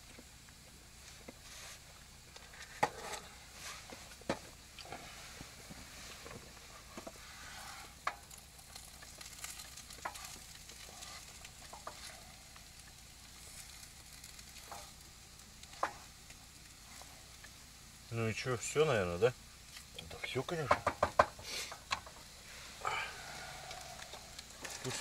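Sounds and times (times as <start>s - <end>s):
potatoes sizzling in a pan: 0.0s - 25.0s.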